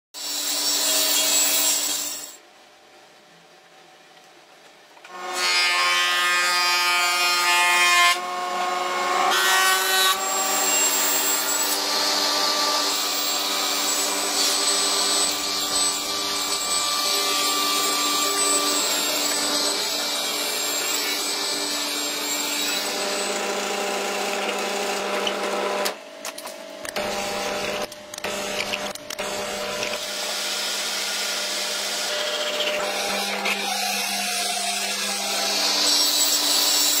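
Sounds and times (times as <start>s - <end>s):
table saw cutting wood: 0.2s - 2.4s, 5.1s - 37.0s.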